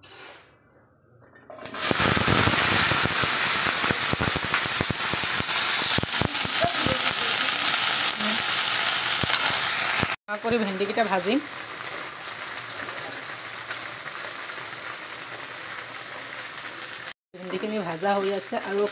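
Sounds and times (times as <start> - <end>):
okra sizzling in hot oil: 1.5 - 18.9.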